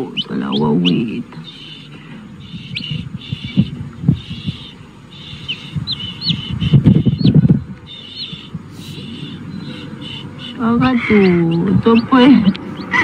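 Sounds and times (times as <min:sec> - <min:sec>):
baby chick peeping: 0:00.0 - 0:13.0
low rough noise: 0:00.0 - 0:13.0
steady high chirring: 0:00.0 - 0:13.0.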